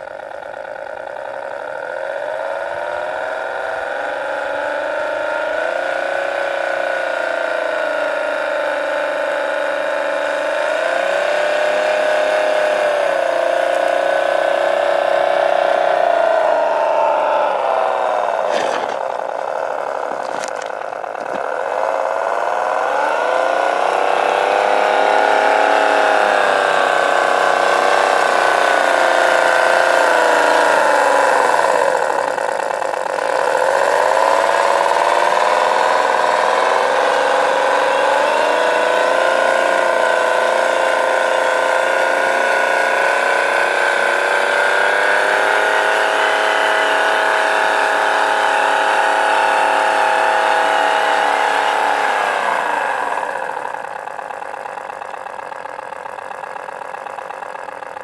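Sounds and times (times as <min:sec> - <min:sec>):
toy truck motor whining: 0:00.0 - 0:58.0.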